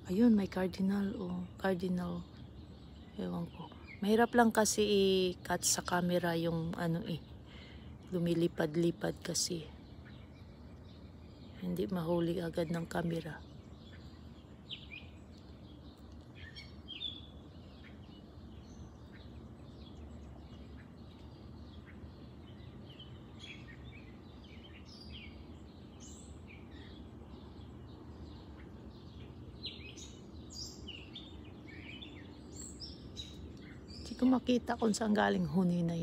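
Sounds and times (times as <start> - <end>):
faint low background noise: 0.0 - 36.0
songbirds chirping: 0.0 - 36.0.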